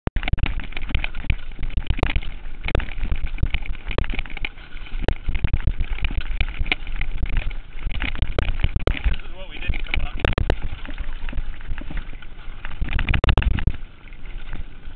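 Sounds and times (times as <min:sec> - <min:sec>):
bike clattering over rocks: 0:00.2 - 0:14.9
low rumble: 0:00.2 - 0:14.9.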